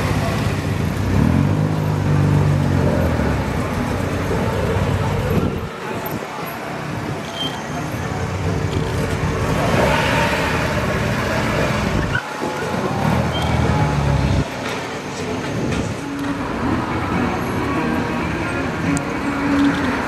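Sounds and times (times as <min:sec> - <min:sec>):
classic car engines running: 0:00.0 - 0:07.2, 0:07.8 - 0:20.0.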